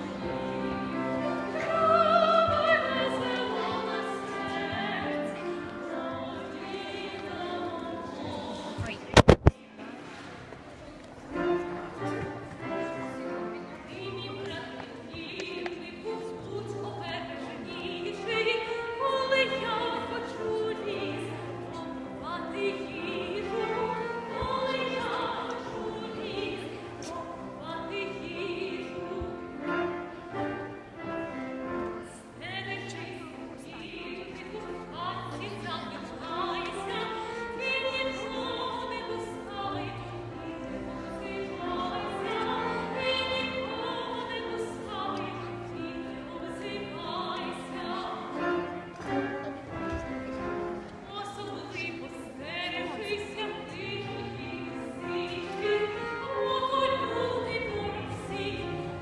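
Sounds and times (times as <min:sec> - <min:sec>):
operatic singing: 0:00.0 - 0:09.0, 0:13.4 - 0:50.1, 0:51.0 - 0:59.0
instrumental accompaniment: 0:00.0 - 0:59.0.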